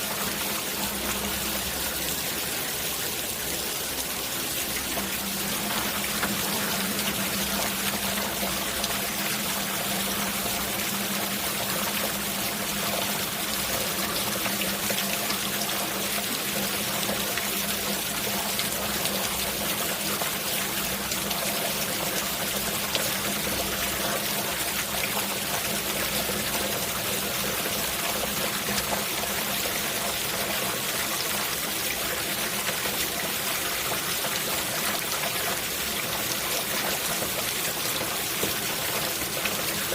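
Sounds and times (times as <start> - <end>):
steady rain: 0.0 - 39.9
water trickling and pouring: 0.0 - 39.9.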